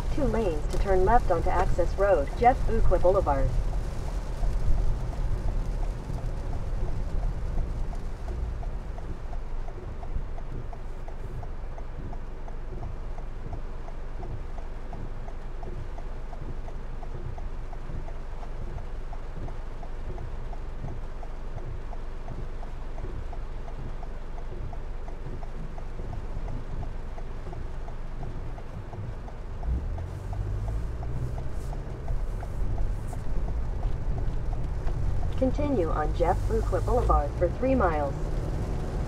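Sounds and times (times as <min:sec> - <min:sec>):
heavy rain on car roof: 0:00.0 - 0:39.0
turn signal ticking: 0:00.0 - 0:39.0
tyres rumbling on wet road: 0:00.0 - 0:39.0.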